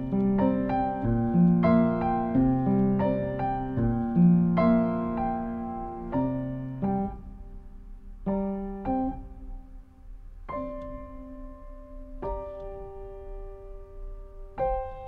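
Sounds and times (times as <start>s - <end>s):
solo piano notes and chords: 0.0s - 15.0s.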